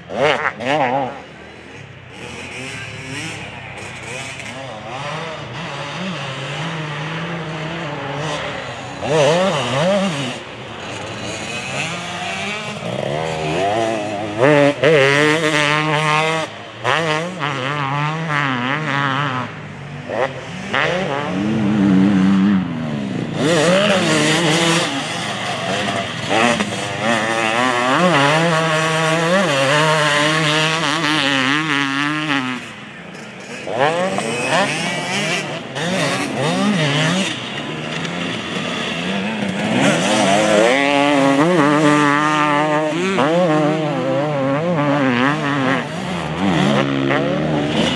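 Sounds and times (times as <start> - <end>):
two-stroke engine revving: 0.0 - 47.9.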